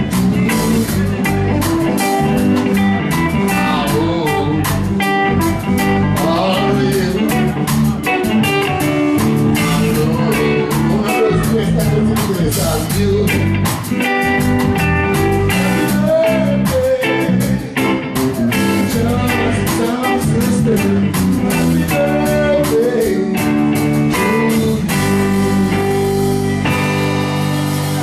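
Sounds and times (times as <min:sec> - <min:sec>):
drum kit beat: 0:00.0 - 0:28.0
electric bass: 0:00.0 - 0:28.0
electric guitar: 0:00.0 - 0:28.0.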